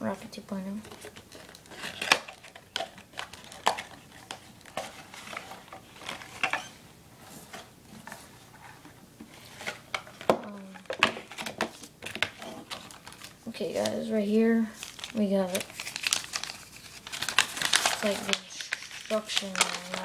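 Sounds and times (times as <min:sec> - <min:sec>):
box packaging clicks and rustles: 0:00.6 - 0:06.7, 0:07.4 - 0:14.1, 0:14.8 - 0:20.0.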